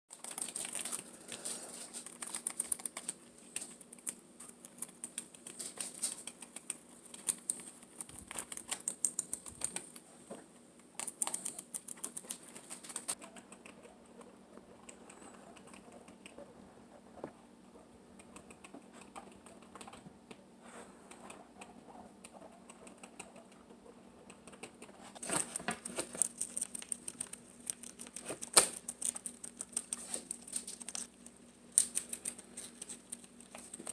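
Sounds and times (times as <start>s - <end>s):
faint steady hum: 0.1s - 33.9s
guinea pigs munching leaves: 0.1s - 33.9s.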